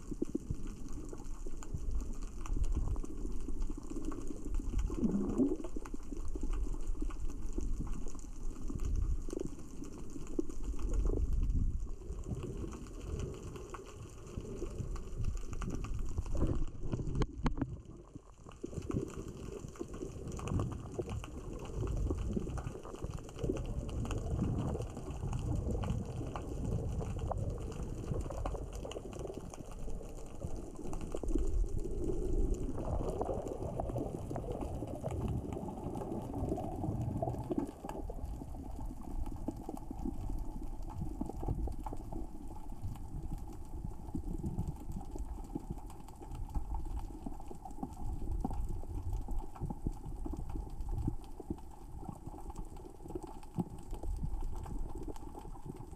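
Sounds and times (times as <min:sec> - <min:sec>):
low underwater rumble: 0:00.0 - 0:55.9
underwater rocks clicking: 0:00.0 - 0:55.9.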